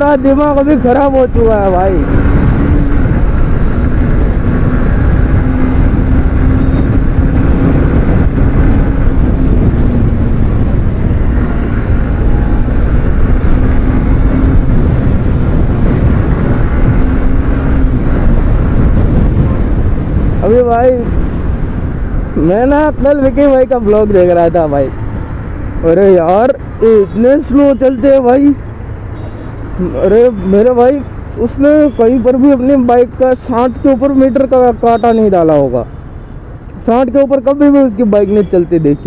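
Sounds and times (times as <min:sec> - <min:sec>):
wind rushing on microphone: 0:00.0 - 0:34.8
motorcycle engine hum: 0:00.0 - 0:37.0.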